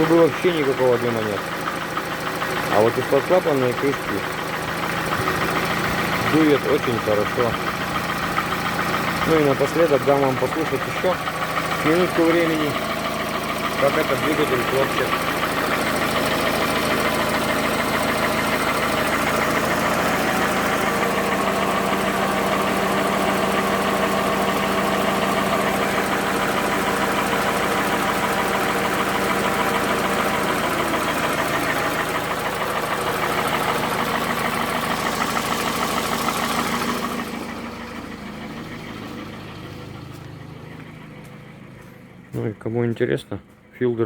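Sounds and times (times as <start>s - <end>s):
car engine idling with knocking: 0.0s - 44.0s.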